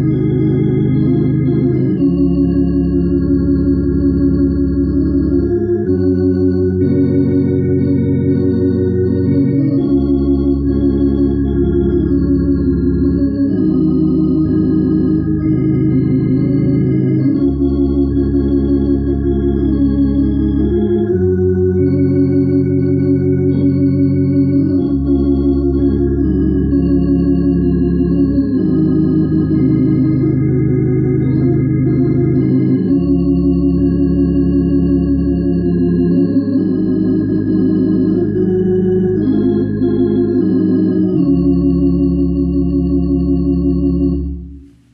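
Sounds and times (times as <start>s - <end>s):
organ playing held chords: 0.0s - 44.9s.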